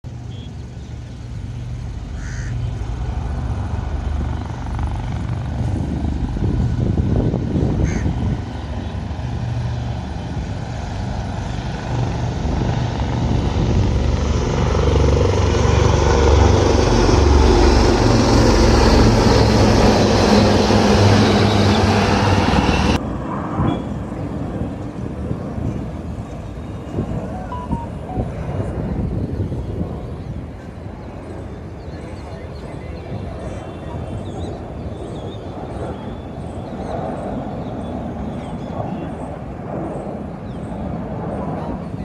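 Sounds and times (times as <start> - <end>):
low-flying aircraft rumble: 0.0 - 42.0.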